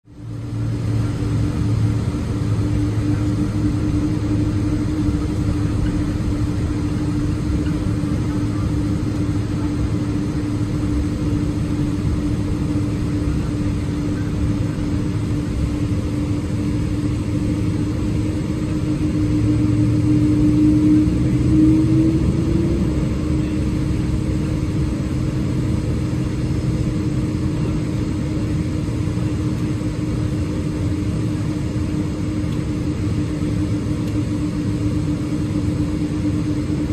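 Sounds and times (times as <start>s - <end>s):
jet engines droning: 0.1s - 36.9s
rush of air in cabin: 0.2s - 36.9s.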